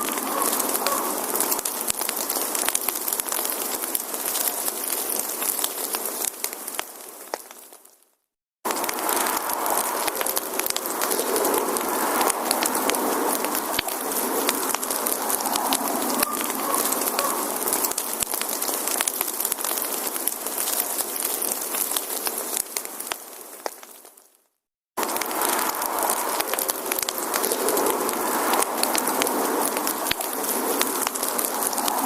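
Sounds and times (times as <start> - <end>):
wood fire crackling: 0.0 - 8.1, 8.7 - 32.0.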